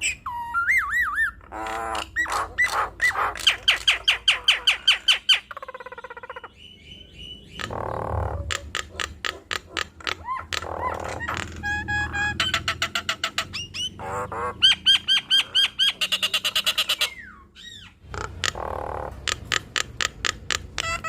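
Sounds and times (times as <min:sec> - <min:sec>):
harsh rasping bird call: 0:00.0 - 0:21.0.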